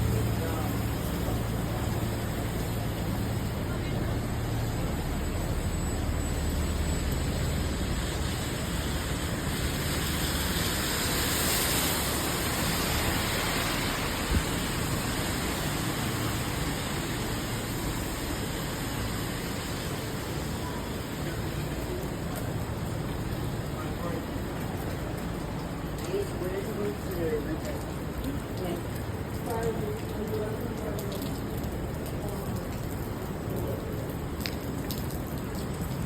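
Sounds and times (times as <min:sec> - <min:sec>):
rain on a wet street: 0:00.0 - 0:36.0.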